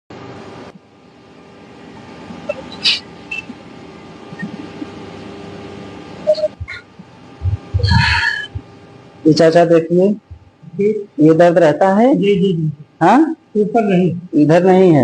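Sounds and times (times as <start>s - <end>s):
room hum: 0.1s - 15.0s.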